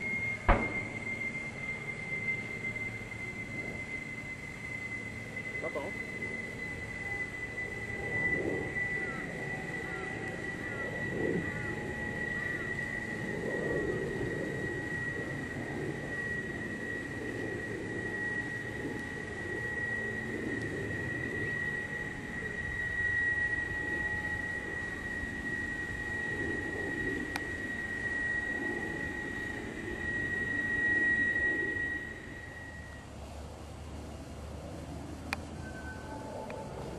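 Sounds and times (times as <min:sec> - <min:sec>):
jet engines rumbling and whining: 0:00.0 - 0:36.9.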